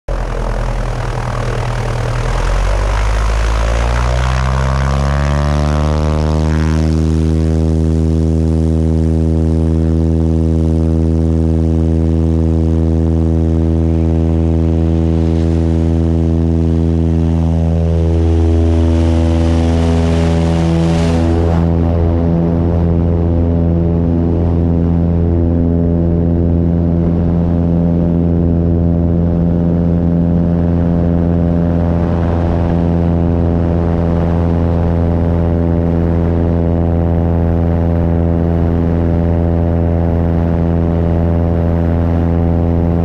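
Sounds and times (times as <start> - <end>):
propeller plane engine: 0.0 - 43.0.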